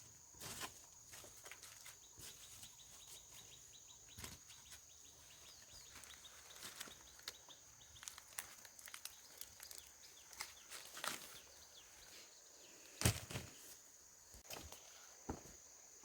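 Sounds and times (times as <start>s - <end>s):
dry corn plants rustling: 0.0s - 15.0s.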